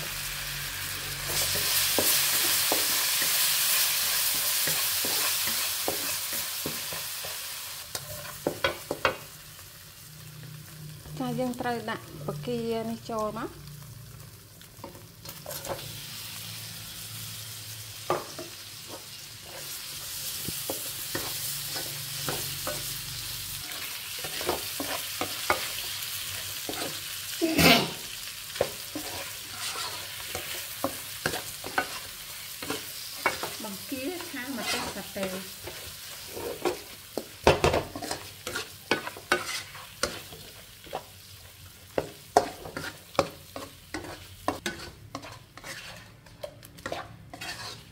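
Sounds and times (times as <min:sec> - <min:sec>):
shrimp sizzling in a wok: 0:00.0 - 0:47.9
spatula scraping a pan: 0:01.1 - 0:09.2, 0:15.2 - 0:16.2, 0:18.0 - 0:23.0, 0:23.6 - 0:47.9.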